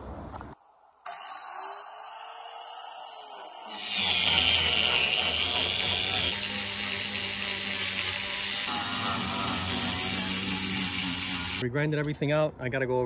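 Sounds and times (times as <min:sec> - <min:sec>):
angle grinder grinding: 0:01.1 - 0:11.6.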